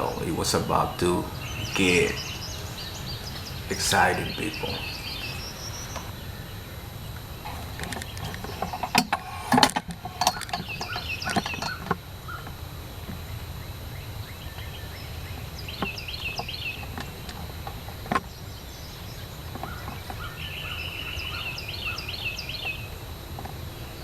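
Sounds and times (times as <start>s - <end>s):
outdoor background noise: 0.0s - 24.0s
songbirds chirping: 0.0s - 24.0s.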